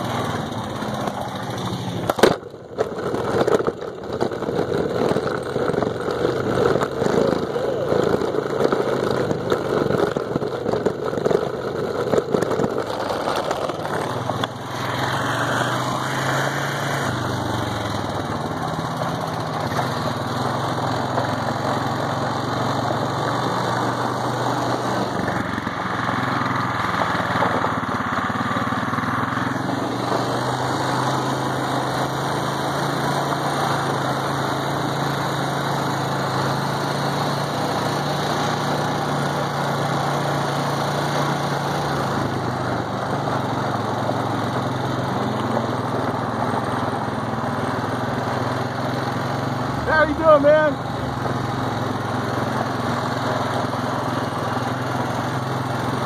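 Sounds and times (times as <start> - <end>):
atv engine running: 0.0 - 56.0
tyres rolling on gravel: 0.0 - 56.0.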